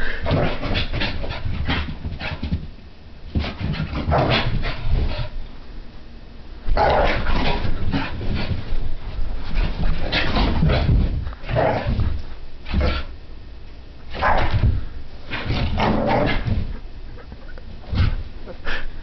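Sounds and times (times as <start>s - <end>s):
paws thudding and scrabbling: 0.3s - 5.4s, 6.7s - 13.1s, 14.1s - 18.4s.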